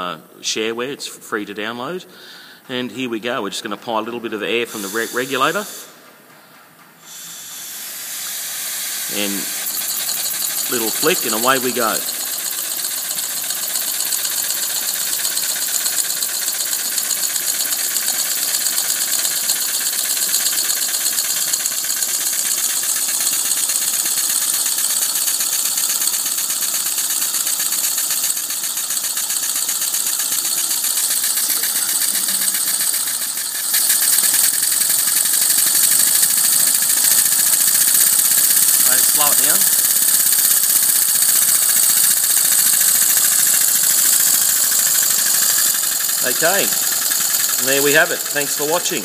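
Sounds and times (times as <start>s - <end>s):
air engine hissing puffs: 4.4s - 49.0s.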